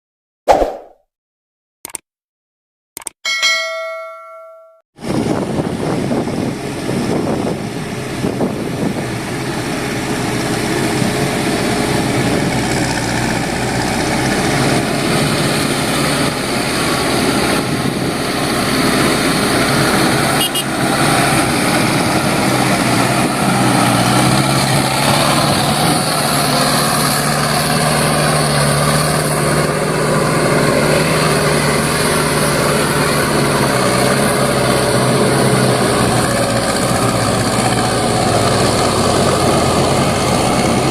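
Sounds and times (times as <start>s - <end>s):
dump truck diesel engine running: 5.0s - 40.9s.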